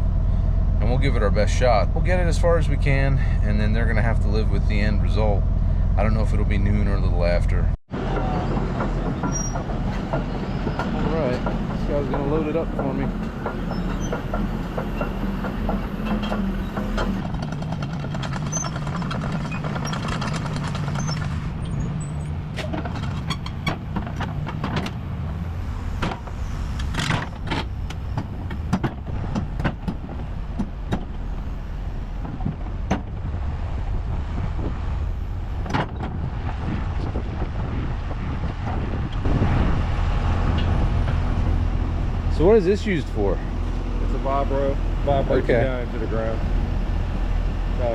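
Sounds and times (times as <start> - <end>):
diesel engine idling: 0.0 - 22.6, 23.3 - 47.9.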